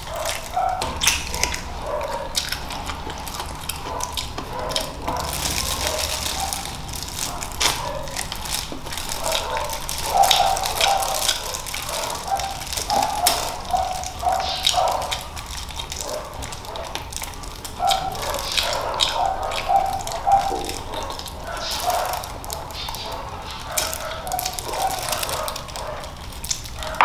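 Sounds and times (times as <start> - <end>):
chewing crunchy chicken feet: 0.0 - 27.0.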